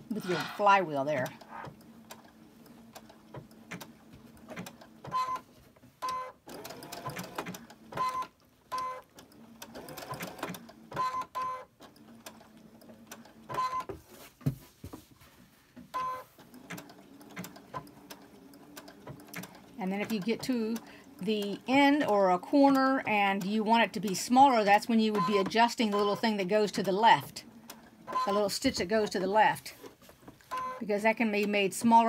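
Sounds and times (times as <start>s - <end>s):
sewing machine stitching: 0.1s - 13.9s, 16.0s - 30.8s.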